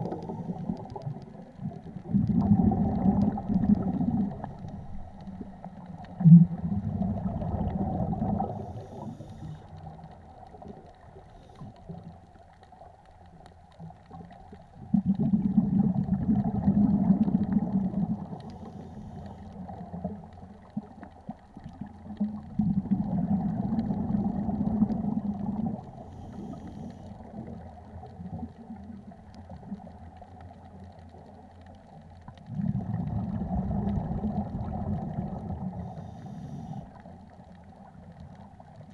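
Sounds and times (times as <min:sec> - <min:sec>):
regulator air bubbling underwater: 0:00.0 - 0:38.9.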